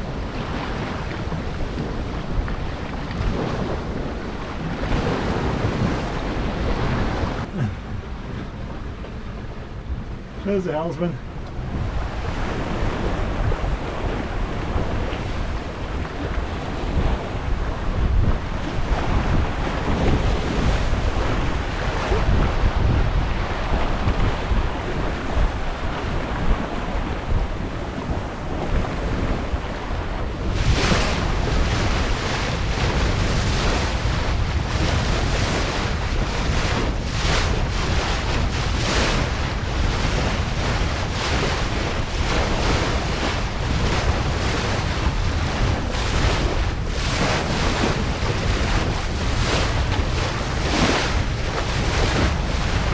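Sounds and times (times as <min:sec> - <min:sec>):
water rushing along hull: 0:00.0 - 0:52.9
wind buffeting microphone: 0:00.0 - 0:52.9.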